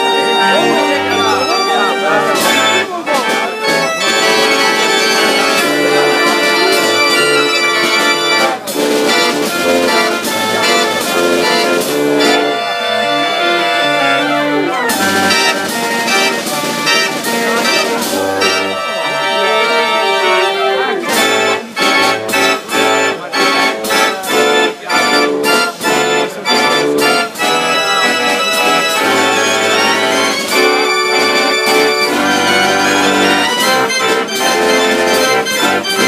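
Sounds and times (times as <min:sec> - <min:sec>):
fair organ playing a tune: 0:00.0 - 0:36.0.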